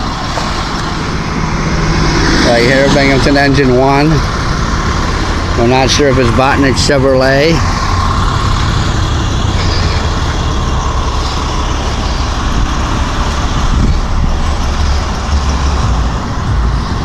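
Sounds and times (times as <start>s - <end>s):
low rumble of vehicle engines: 0.0s - 17.0s
road traffic noise: 0.0s - 17.0s.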